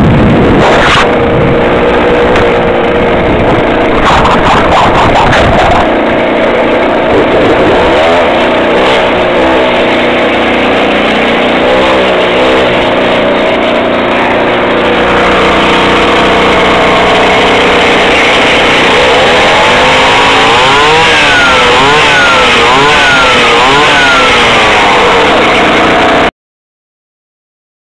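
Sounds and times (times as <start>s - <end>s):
two-stroke engine revving: 0.0s - 26.3s.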